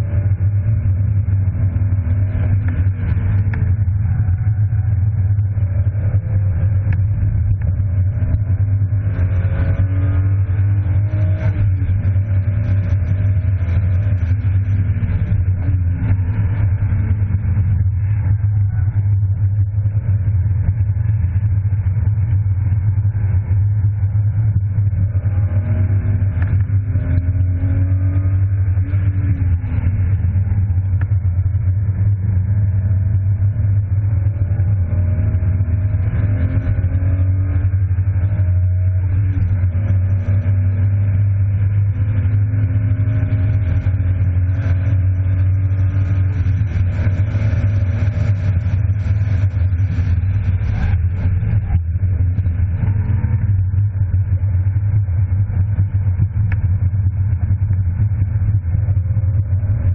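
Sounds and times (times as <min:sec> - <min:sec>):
car engine revving: 0:00.0 - 0:59.9
steady low drone: 0:00.0 - 0:59.9.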